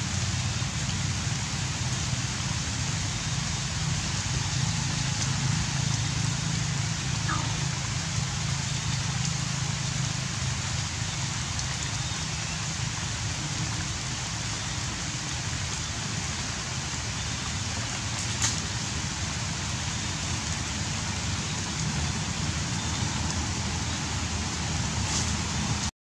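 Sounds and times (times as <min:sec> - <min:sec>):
forest ambience hiss: 0:00.0 - 0:25.9.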